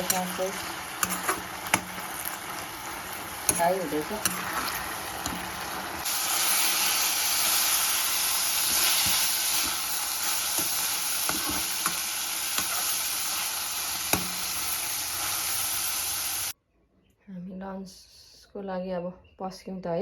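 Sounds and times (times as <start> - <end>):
greens sizzling in a pan: 0.0 - 16.6.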